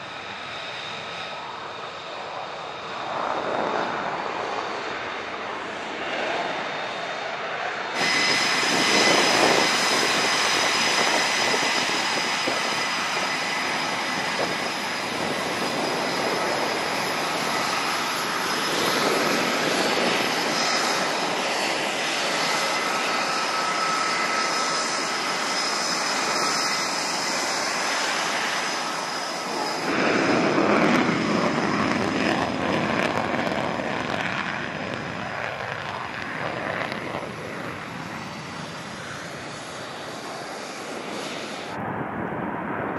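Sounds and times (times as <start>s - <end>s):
high engine whine: 0.0s - 42.9s
jet engine rush: 0.0s - 42.9s.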